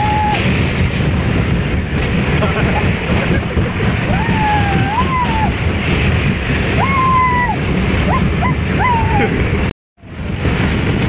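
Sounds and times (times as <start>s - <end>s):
roller coaster cars rumbling on track: 0.0s - 11.0s
wind on microphone: 0.0s - 11.0s.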